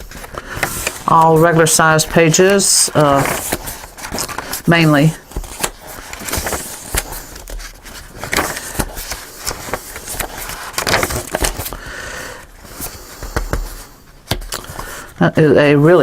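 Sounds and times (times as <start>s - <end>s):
paper pages being turned: 0.0s - 15.2s.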